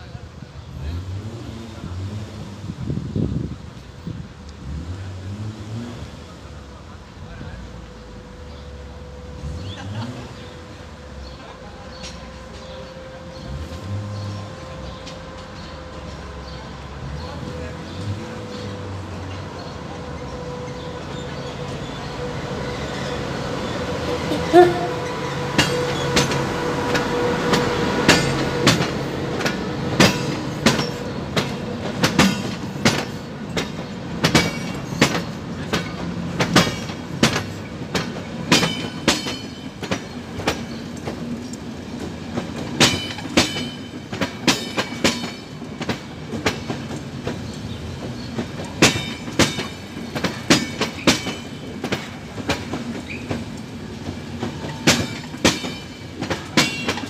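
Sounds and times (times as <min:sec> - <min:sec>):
locomotive steady tone: 0:06.1 - 0:57.0
train wheels clattering over rail joints: 0:09.6 - 0:57.0.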